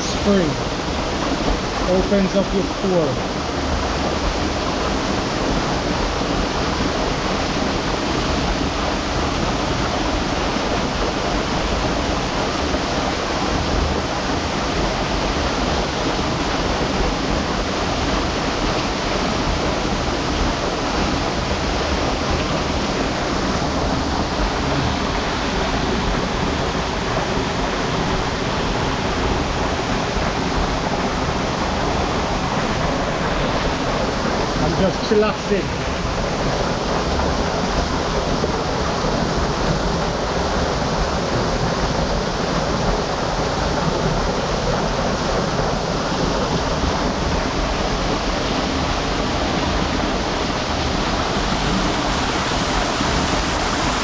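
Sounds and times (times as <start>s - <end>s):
rush of running water: 0.0s - 54.0s.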